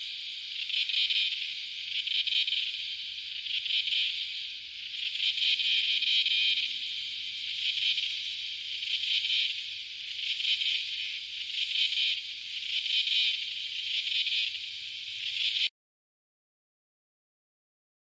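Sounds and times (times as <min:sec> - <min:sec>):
cicadas buzzing: 0:00.0 - 0:15.6.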